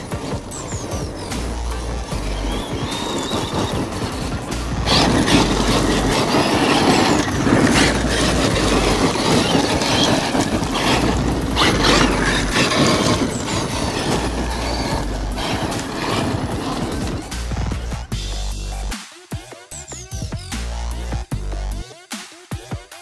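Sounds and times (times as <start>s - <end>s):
electric motor running: 0.0s - 18.9s
tires spraying gravel: 0.0s - 18.9s.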